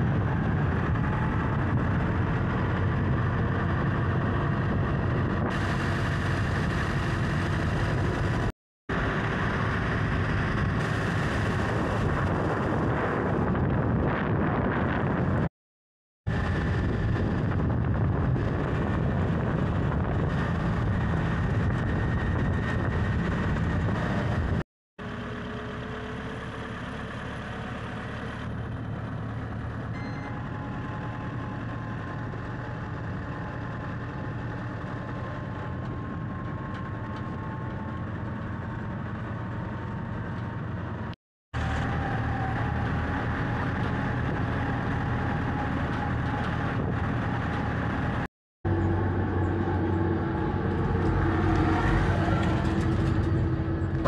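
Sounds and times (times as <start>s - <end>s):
vehicle engine running: 0.0s - 15.4s, 16.3s - 54.0s.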